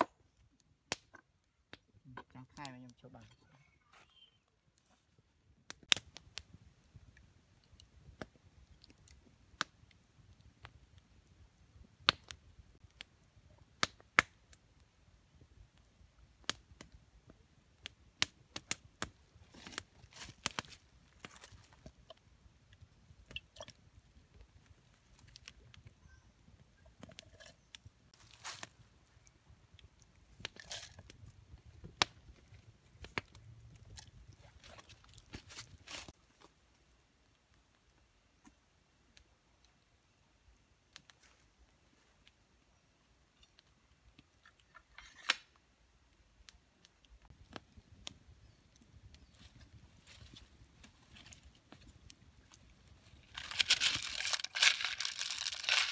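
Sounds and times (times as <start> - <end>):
wood fire crackling and popping: 0.0 - 3.2, 4.7 - 42.5, 43.2 - 55.9.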